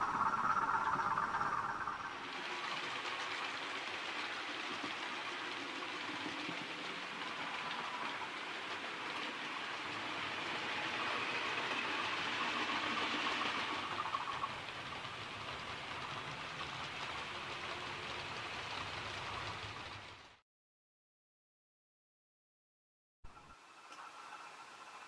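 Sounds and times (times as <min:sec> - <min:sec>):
model train wheels whirring: 0:00.0 - 0:20.4.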